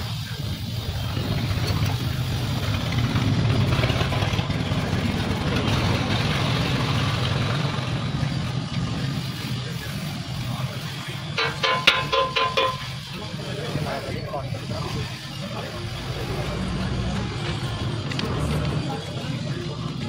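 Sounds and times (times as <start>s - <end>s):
diesel engine idling: 0.0s - 13.5s, 14.6s - 20.0s.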